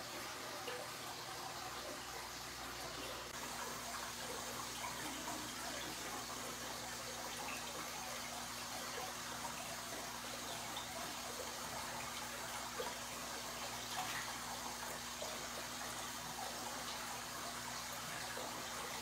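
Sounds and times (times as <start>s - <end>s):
aquarium water bubbling: 0.0s - 19.0s.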